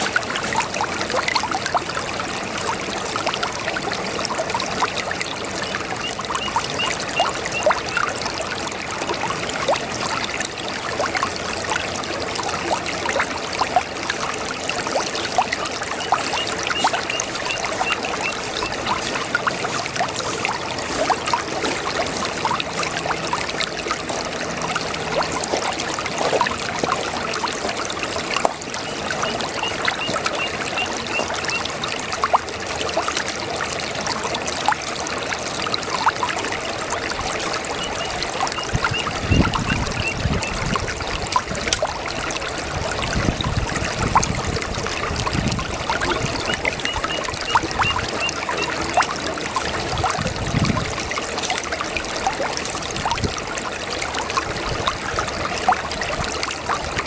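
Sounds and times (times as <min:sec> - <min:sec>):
brook babbling over stones: 0:00.0 - 0:57.0.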